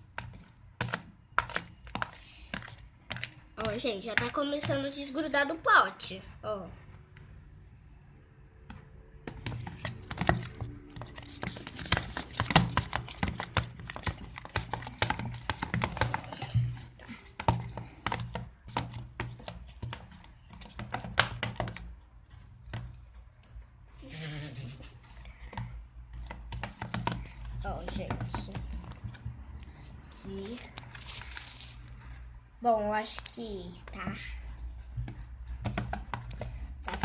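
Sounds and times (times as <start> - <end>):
slime squelching as spoon stirs: 0.0 - 5.4, 8.6 - 23.9, 24.8 - 32.2, 33.0 - 37.0.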